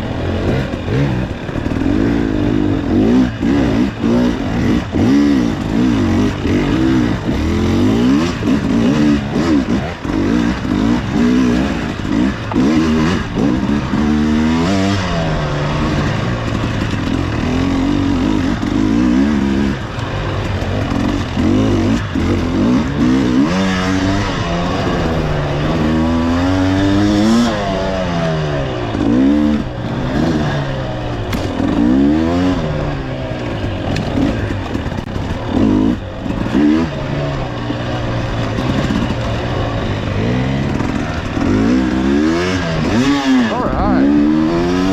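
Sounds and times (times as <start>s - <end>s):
clatter: 0.0s - 44.9s
motorcycle engine revving: 0.0s - 44.9s.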